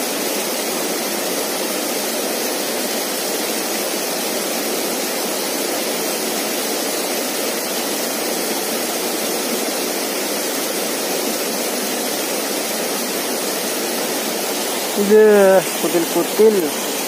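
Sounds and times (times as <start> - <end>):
waterfall splashing into pool: 0.0 - 17.0.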